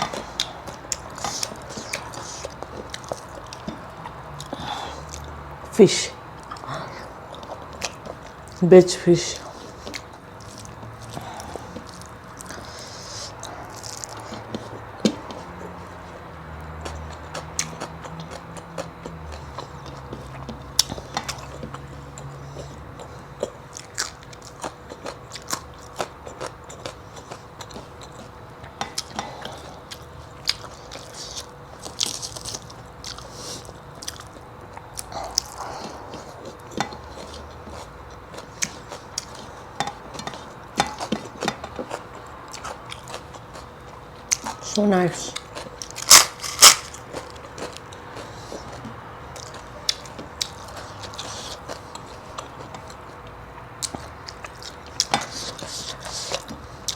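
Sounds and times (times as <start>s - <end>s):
person chewing and crunching food: 0.0s - 5.6s, 6.3s - 8.7s, 9.4s - 56.9s.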